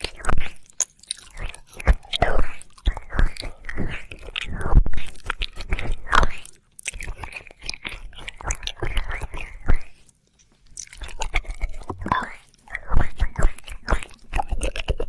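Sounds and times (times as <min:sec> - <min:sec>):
wet mouth smacks and clicks: 0:00.0 - 0:15.0.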